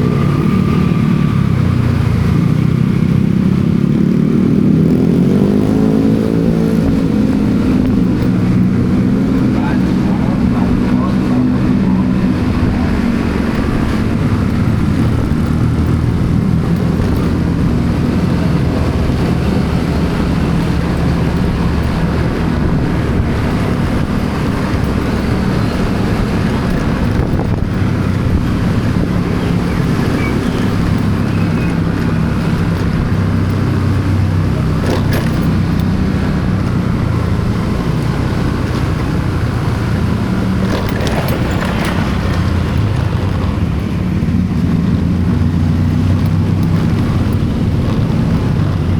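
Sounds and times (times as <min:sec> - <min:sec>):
road noise rushing: 0:00.0 - 0:48.9
vehicle engine running: 0:00.0 - 0:48.9.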